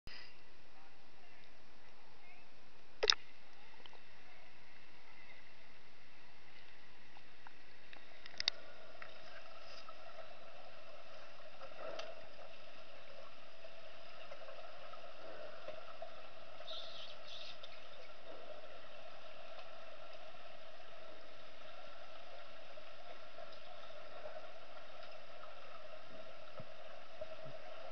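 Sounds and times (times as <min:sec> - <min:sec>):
faint bubbling and gurgling: 0:00.1 - 0:27.9
underwater hum: 0:03.0 - 0:27.9.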